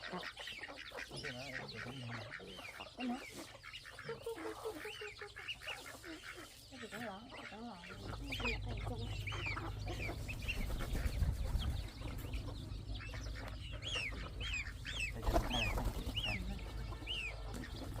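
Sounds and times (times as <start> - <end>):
chickens peeping and clucking: 0.0 - 18.0.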